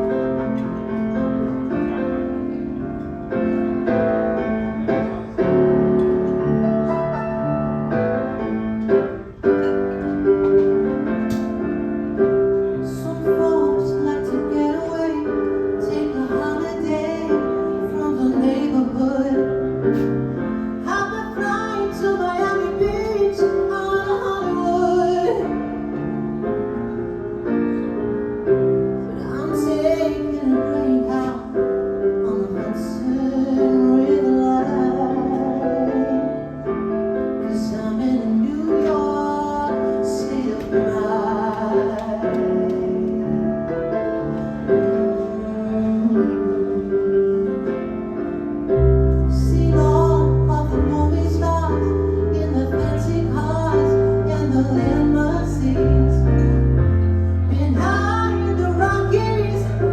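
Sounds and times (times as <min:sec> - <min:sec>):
live band with piano: 0:00.0 - 0:59.9.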